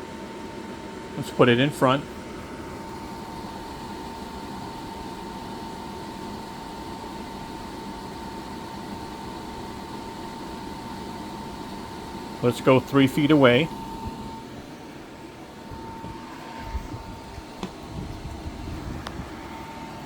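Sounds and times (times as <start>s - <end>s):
air conditioner fan rushing air: 0.0s - 20.0s
thin high whine: 2.8s - 20.0s.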